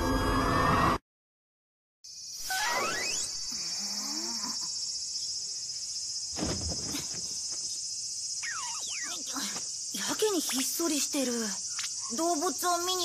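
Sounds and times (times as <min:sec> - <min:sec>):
insect chorus chirring: 0:02.1 - 0:13.0.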